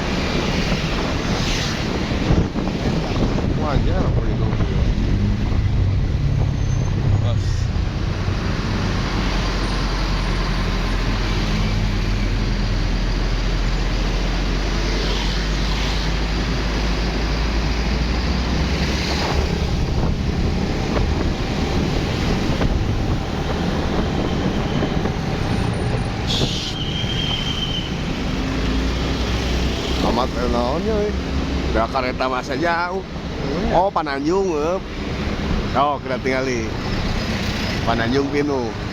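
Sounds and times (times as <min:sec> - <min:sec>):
vehicle engines running: 0:00.0 - 0:38.9.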